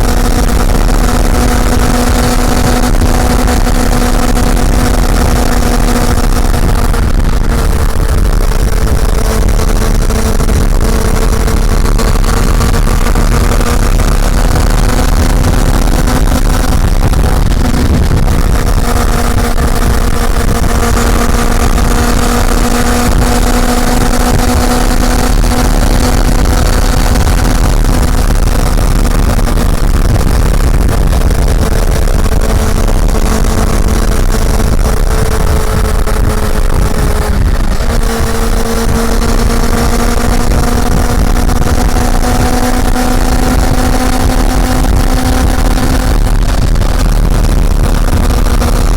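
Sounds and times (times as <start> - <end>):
motorcycle engine cruising: 0.0 - 48.9
wind rumble on microphone: 0.0 - 48.9.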